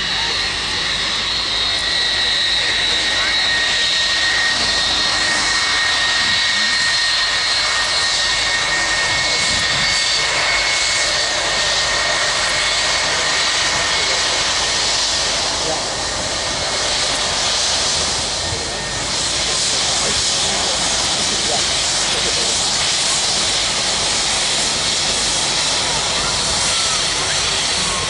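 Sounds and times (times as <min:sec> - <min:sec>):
jet engine roar and whine: 0:00.0 - 0:28.0.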